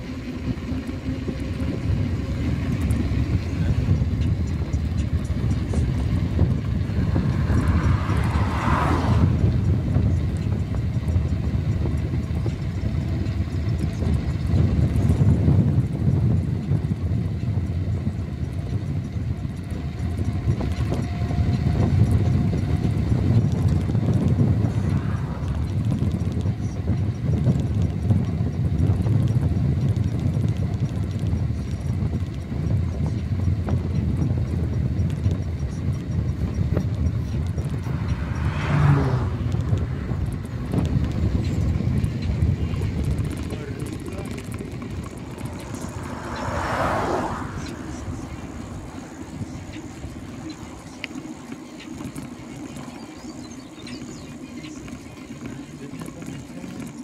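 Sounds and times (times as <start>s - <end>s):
bicycle rolling noise: 0.0s - 57.0s
wind buffeting microphone: 0.0s - 57.0s
car passing: 0.8s - 14.4s, 18.4s - 27.7s, 31.5s - 57.0s.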